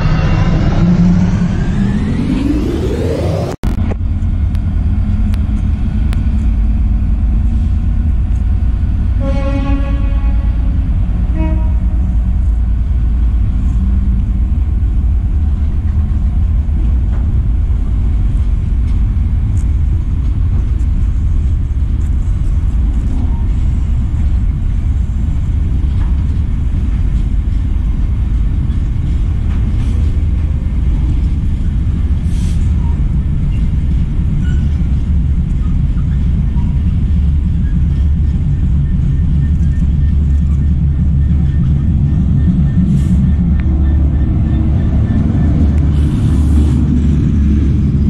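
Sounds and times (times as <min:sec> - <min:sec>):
diesel locomotive approaching: 0:00.0 - 0:48.0
freight train rumbling by: 0:00.0 - 0:48.0
wheels clicking and squealing on rails: 0:00.0 - 0:48.0.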